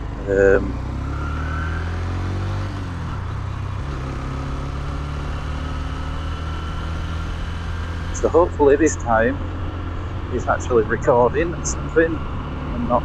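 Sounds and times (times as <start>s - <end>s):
motorcycle engine humming: 0.0s - 13.0s
road and wind noise: 0.0s - 13.0s.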